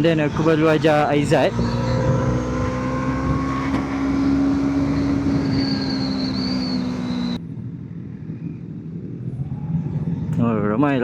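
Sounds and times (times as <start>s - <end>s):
motorcycle engine cruising: 0.0s - 10.8s
wind and road noise: 0.0s - 11.0s.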